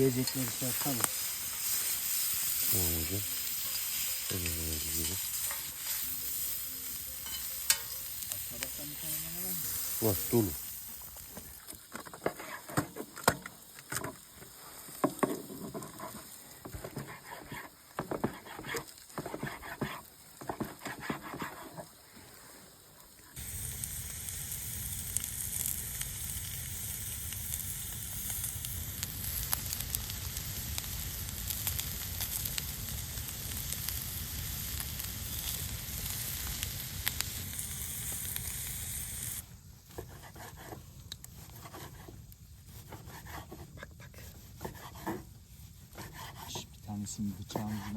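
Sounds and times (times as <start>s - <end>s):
food sizzling in frying: 0.0s - 22.1s, 23.3s - 43.7s.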